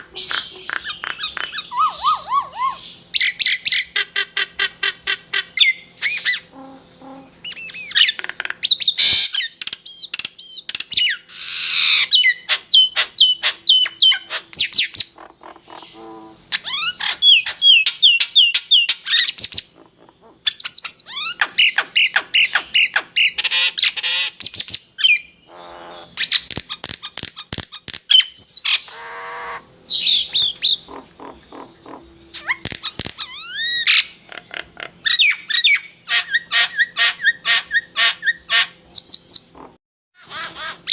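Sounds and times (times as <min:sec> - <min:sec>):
songbird singing: 0:00.0 - 0:39.6.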